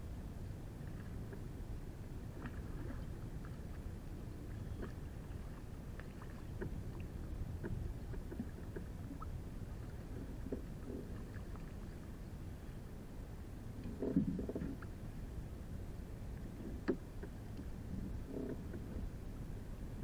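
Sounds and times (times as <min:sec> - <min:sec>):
low rumble of wind and water: 0:00.0 - 0:20.0.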